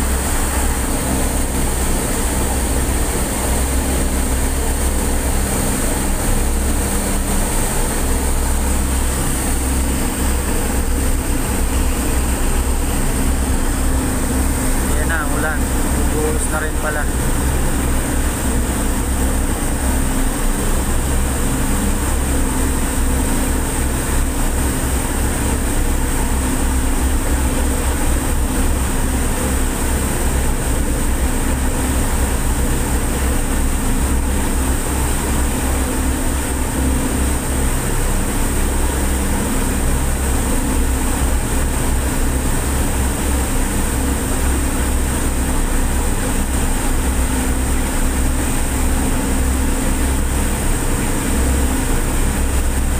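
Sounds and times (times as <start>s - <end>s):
water rushing in wake: 0.0s - 52.9s.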